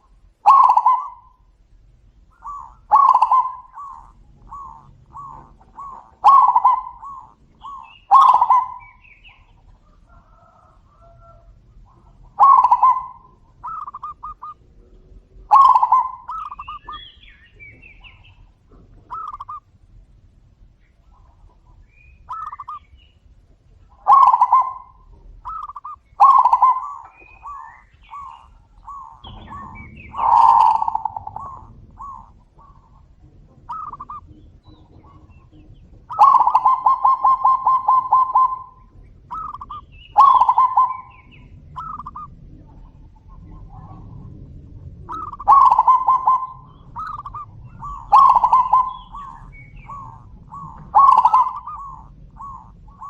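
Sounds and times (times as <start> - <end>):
doves cooing: 0.0 - 53.0.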